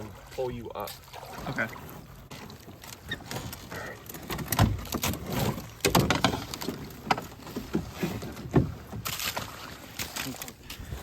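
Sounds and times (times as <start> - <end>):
rowboat hull knocking and scraping: 0.0 - 11.0.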